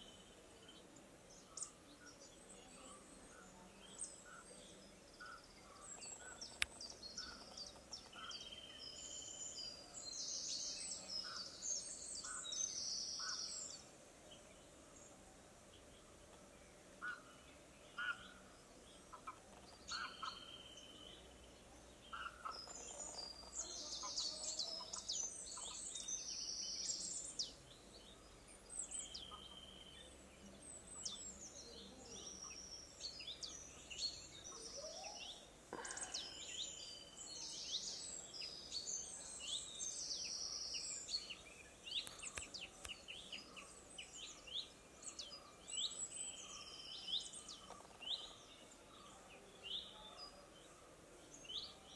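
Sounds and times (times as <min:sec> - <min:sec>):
faint background hiss: 0:00.0 - 0:51.9.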